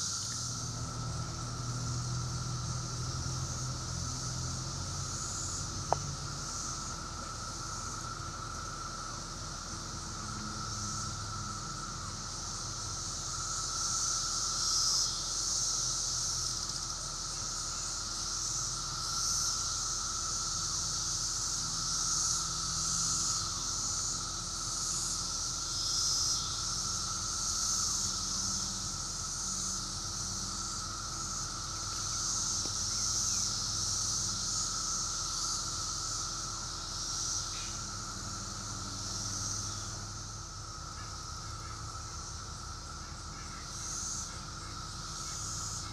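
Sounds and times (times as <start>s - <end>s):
cicadas droning: 0.0s - 45.9s
low steady whine: 0.0s - 45.9s.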